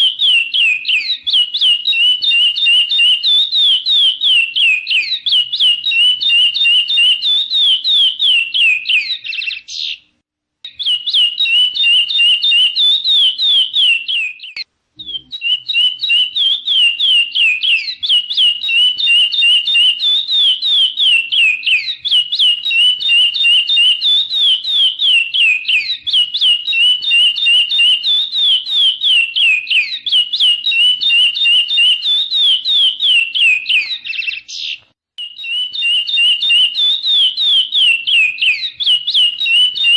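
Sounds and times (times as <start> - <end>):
bird whistling song: 0.0 - 10.1, 10.7 - 39.9.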